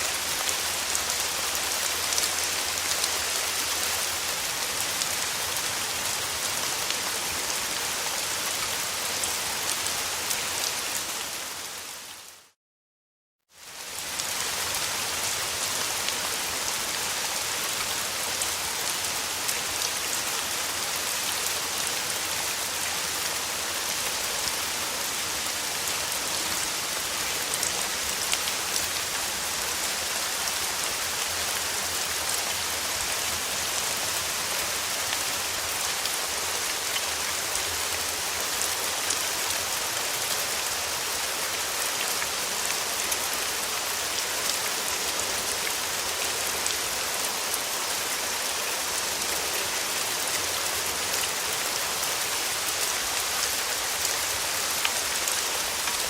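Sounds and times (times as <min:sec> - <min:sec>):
rain falling: 0:00.0 - 0:12.6, 0:13.5 - 0:56.0.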